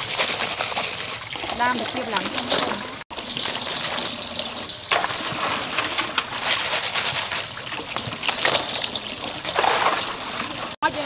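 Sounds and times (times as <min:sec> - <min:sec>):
crabs clicking in metal bowl: 0:00.0 - 0:11.0.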